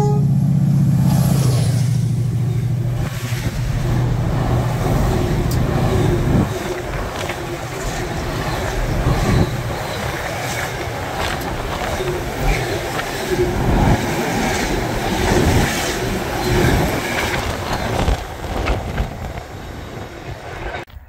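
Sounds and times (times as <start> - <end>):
diesel train engine droning: 0.0 - 20.9
train rumble: 0.0 - 21.0.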